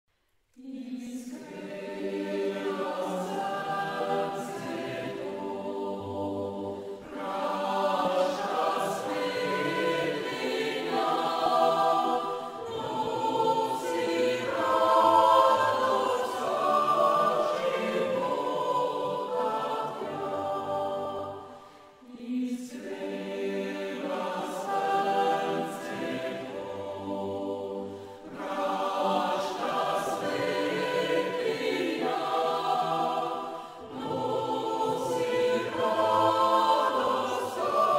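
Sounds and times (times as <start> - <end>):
choir singing sustained chords: 0.5 - 37.9.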